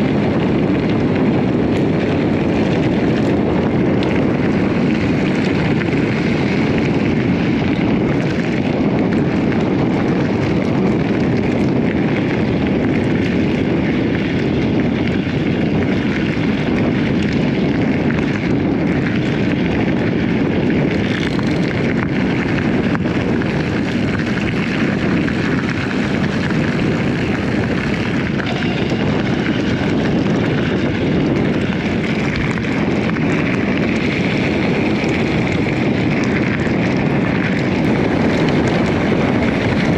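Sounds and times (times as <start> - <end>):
bike tyres on rough ground: 0.0 - 39.9
wind buffeting microphone: 0.0 - 39.9.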